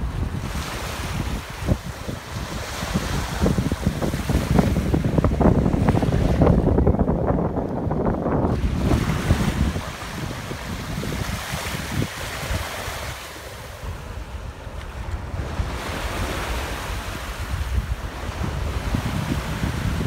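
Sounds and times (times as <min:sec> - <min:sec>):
small waves washing over sand: 0:00.0 - 0:06.9, 0:07.6 - 0:20.0
wind buffeting microphone: 0:00.0 - 0:20.0.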